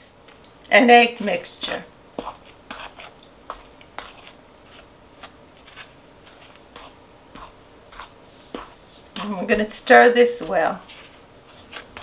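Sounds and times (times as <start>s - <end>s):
spoon scraping ceramic bowl: 2.2s - 12.0s.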